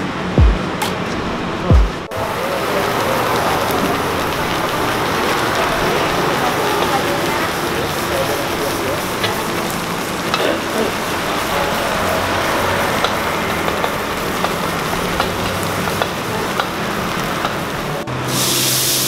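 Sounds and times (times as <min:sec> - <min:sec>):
fat crackling on coals: 0:02.0 - 0:18.1
bright hiss: 0:02.2 - 0:19.0
meat sizzling on a grill: 0:02.2 - 0:19.0.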